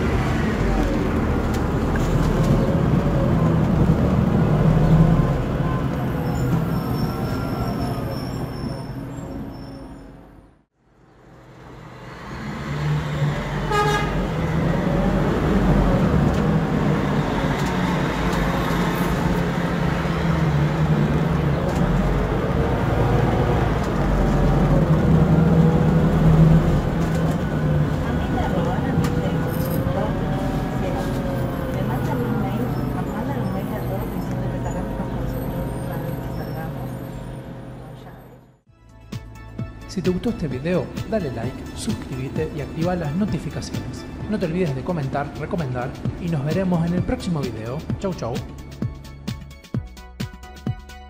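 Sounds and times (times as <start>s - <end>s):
bus engine and road noise: 0.0s - 51.0s.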